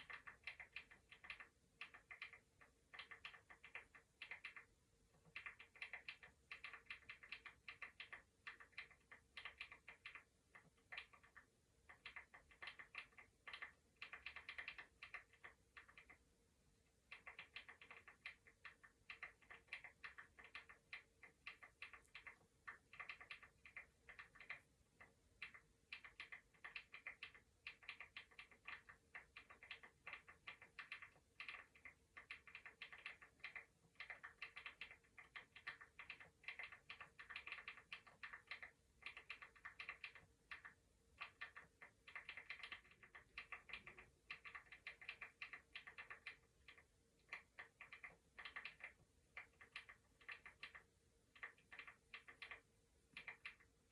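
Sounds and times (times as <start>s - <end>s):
computer keyboard typing: 0.0s - 53.9s.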